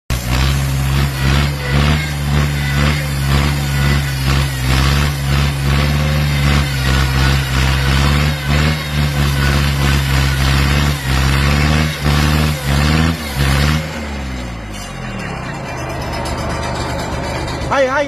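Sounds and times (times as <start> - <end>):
engine-driven circular saw buzzing: 0.1 - 18.0.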